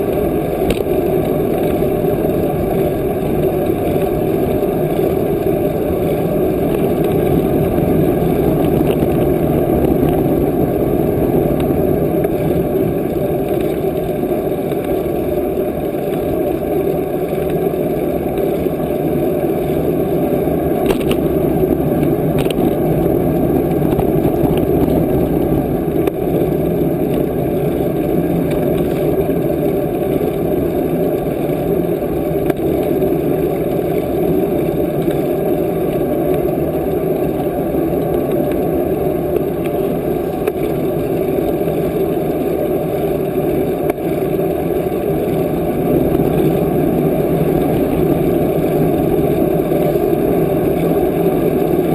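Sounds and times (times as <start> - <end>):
wind and road rumble: 0.0 - 51.9.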